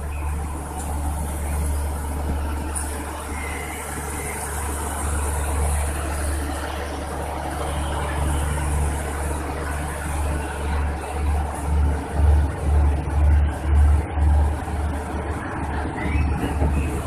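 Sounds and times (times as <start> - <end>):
steady low drone: 0.0 - 17.0
train coaches rolling: 0.0 - 17.0.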